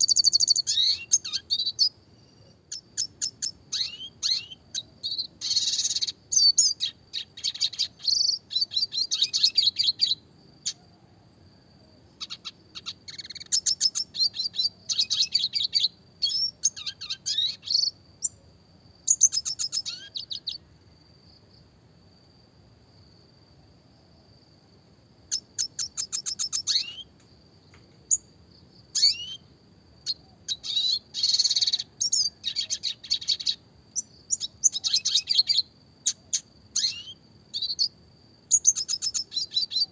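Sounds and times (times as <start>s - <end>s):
bird singing rapid trills: 0.0s - 18.4s, 19.0s - 21.4s, 25.2s - 39.9s.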